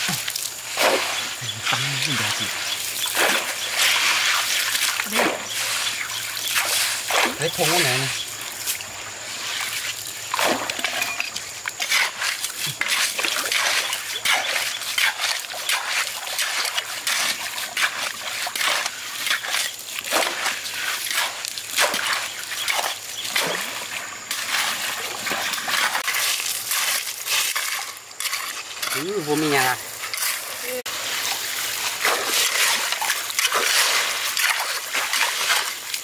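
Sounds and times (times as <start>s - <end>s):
gravel scraped and dug: 0.0s - 36.0s
stream flowing: 0.0s - 36.0s
water splashing: 0.0s - 36.0s.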